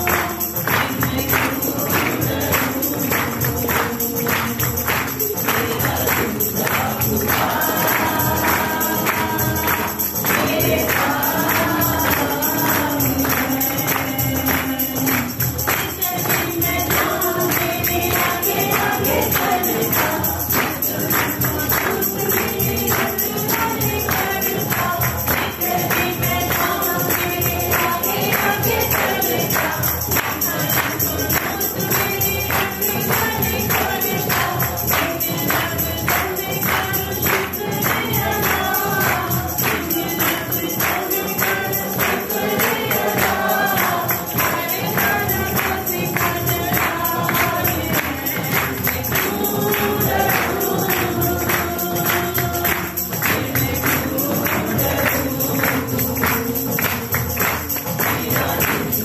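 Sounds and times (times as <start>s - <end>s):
congregation singing a hymn: 0.0s - 59.0s
tambourine beat: 0.0s - 59.0s.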